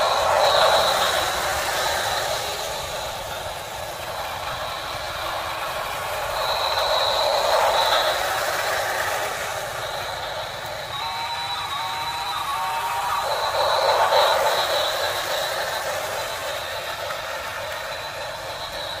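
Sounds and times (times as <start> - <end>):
toy train motors whirring: 0.0 - 19.0
toy train wheels clattering: 0.0 - 19.0.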